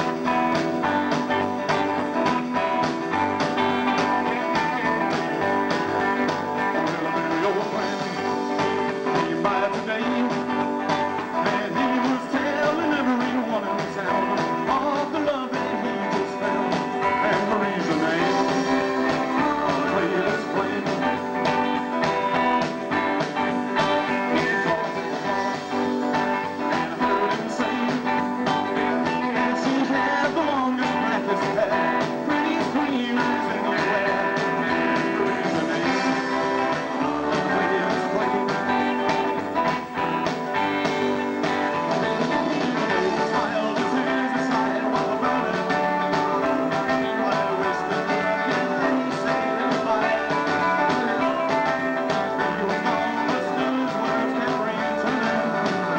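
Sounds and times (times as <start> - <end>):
electric guitar: 0.0 - 55.9
person singing: 0.0 - 55.9.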